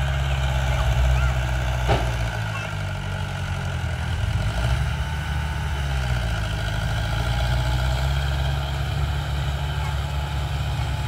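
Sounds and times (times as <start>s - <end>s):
heavy diesel engines rumbling: 0.0s - 11.0s.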